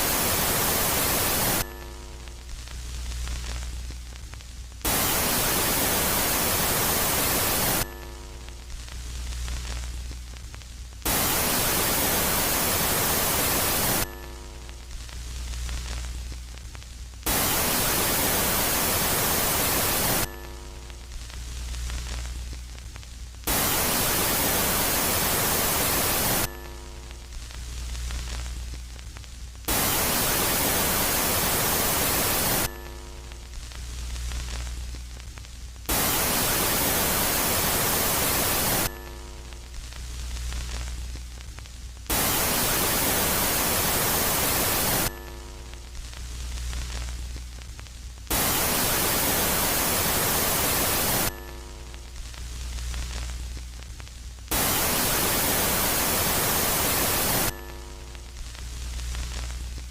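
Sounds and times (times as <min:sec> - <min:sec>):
loud static hiss: 0:00.0 - 0:59.9.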